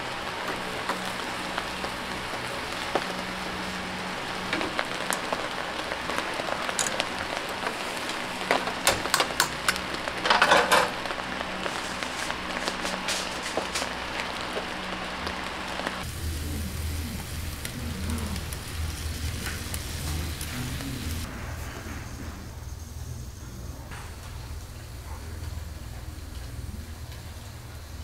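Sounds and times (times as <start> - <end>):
meat sizzling on a grill: 0.0 - 28.0.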